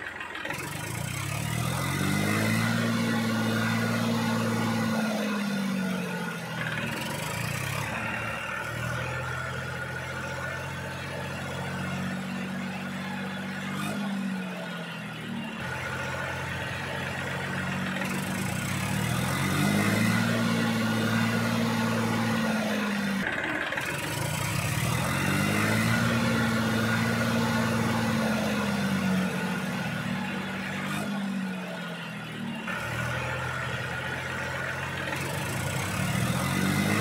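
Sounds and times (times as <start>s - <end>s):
toy tractor motor running: 0.0s - 37.0s.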